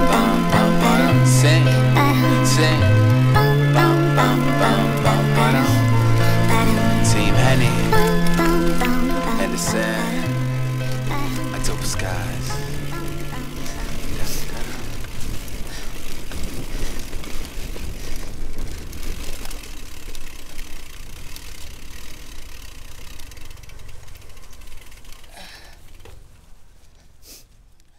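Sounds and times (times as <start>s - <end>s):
bike rattling and clicking: 0.0s - 27.9s
rush of bike tyres on dirt: 0.0s - 27.9s.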